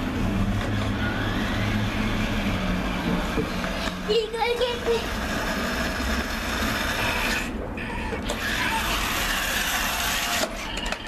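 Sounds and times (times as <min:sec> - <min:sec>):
toy truck motor whirring: 0:00.0 - 0:11.0.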